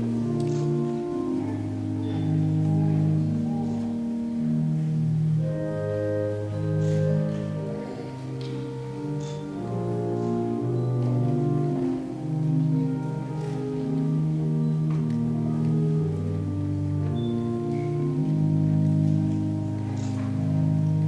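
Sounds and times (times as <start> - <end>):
church organ playing chords: 0.0 - 21.0.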